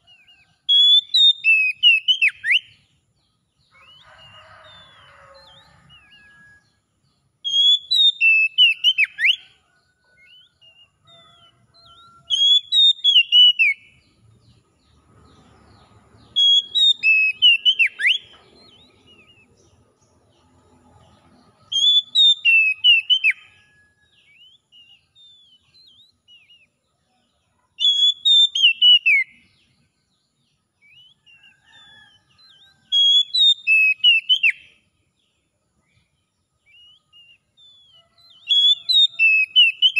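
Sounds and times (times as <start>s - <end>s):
bird singing whistled notes: 0.0s - 2.9s, 3.7s - 6.8s, 7.4s - 14.1s, 16.2s - 20.5s, 21.4s - 27.2s, 27.8s - 34.8s, 35.9s - 39.9s.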